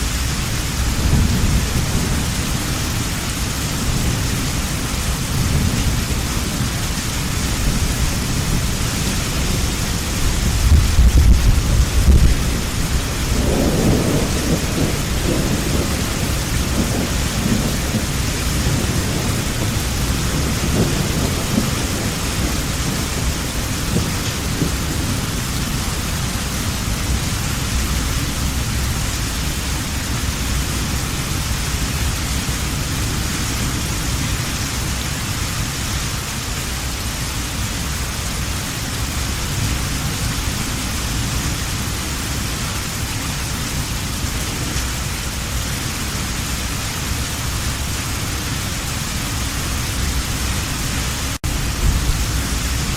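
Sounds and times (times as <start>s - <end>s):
thunder rumbling: 0.0s - 35.2s, 38.9s - 52.9s
heavy rain falling: 0.0s - 52.9s.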